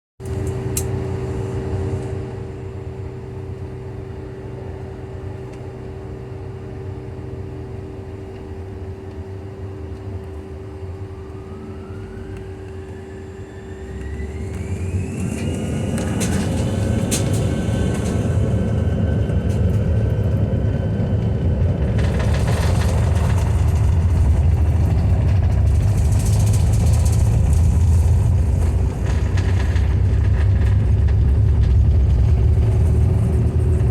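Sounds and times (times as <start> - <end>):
deep jet engine rumble: 0.2 - 33.9
jet engines whining: 0.2 - 33.9.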